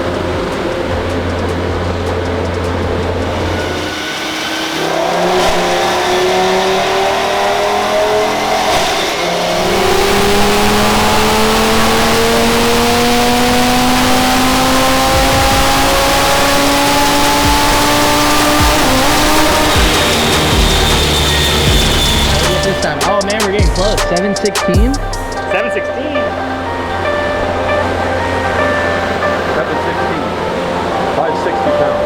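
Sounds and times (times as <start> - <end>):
car engine revving at full throttle: 0.0 - 32.0.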